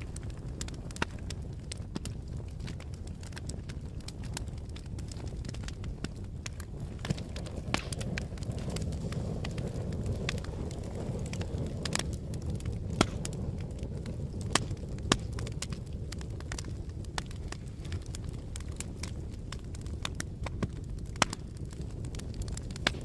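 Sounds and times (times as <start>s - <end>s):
wind blowing: 0.0s - 23.0s
wood fire crackling: 0.0s - 23.0s.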